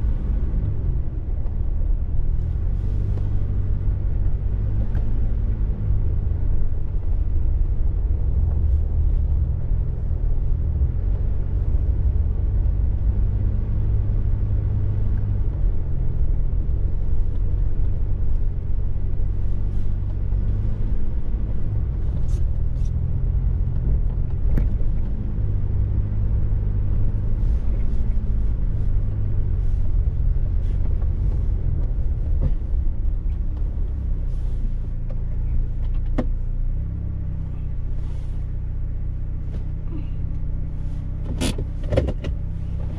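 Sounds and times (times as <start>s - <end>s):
car engine and road rumble: 0.0s - 42.9s.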